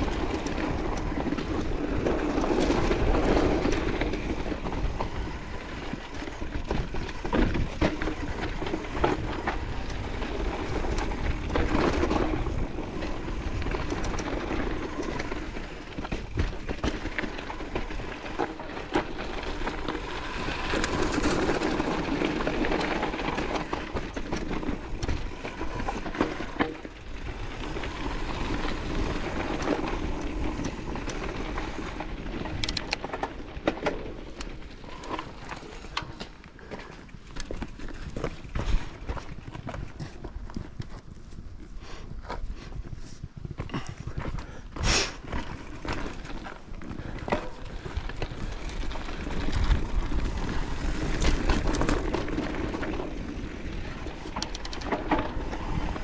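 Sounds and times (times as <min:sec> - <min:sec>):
bike rattling over bumps: 0:00.0 - 0:56.0
tyres and wind rushing: 0:00.0 - 0:56.0.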